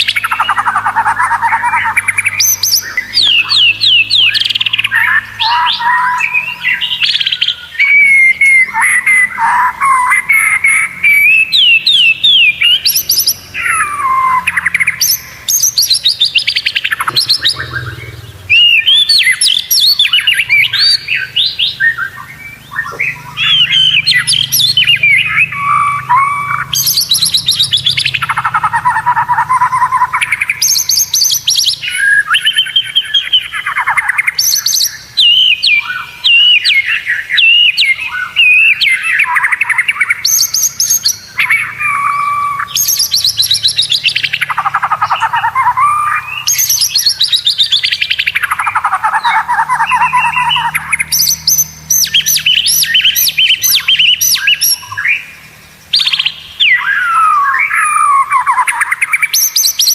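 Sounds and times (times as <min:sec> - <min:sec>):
bird singing trills: 0:00.0 - 0:59.9.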